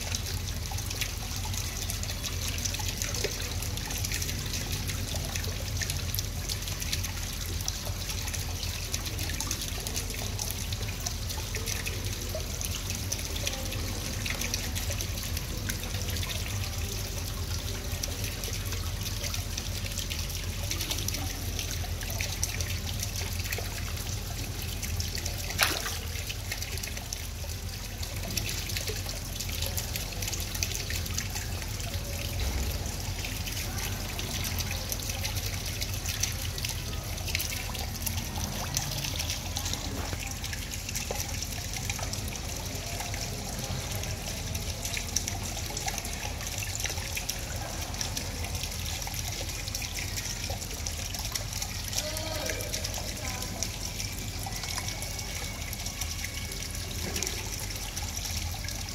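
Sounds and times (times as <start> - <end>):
water trickling and splashing: 0.0 - 58.9.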